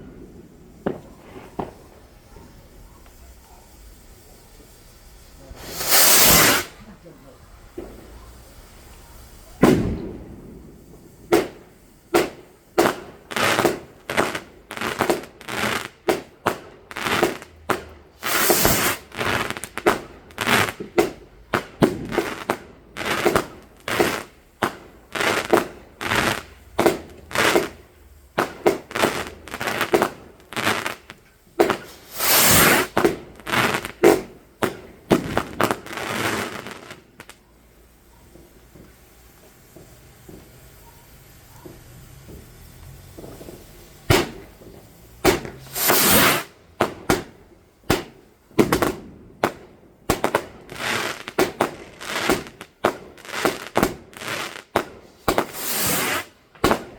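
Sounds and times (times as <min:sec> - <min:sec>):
fireworks bangs: 0:00.0 - 0:56.9
fireworks crackling bursts: 0:00.0 - 0:56.9.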